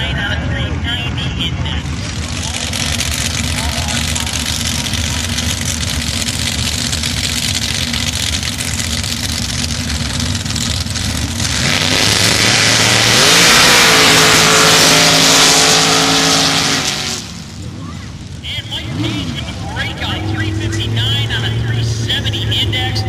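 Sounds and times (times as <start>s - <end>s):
drag racing truck engine revving: 0.0s - 23.0s.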